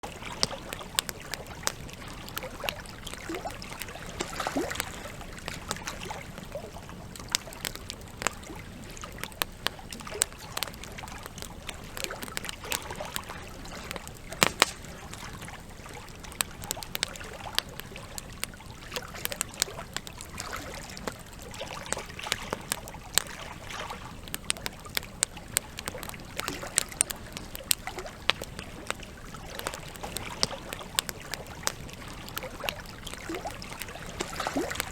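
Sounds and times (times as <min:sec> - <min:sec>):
burning logs crackling: 0:00.0 - 0:34.9
trickle of water: 0:00.0 - 0:34.9.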